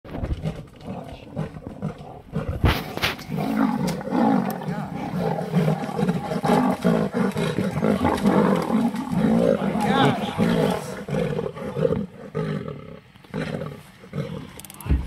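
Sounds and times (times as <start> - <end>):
big cats growling: 0.1 - 15.0.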